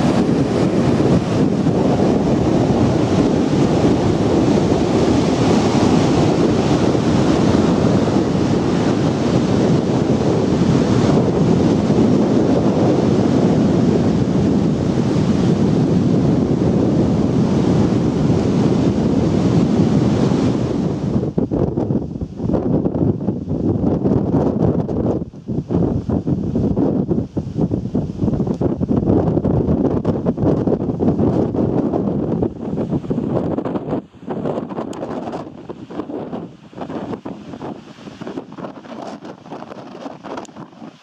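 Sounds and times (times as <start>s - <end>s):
surf breaking on beach: 0.0s - 22.7s, 29.6s - 41.0s
wind on microphone: 0.0s - 41.0s.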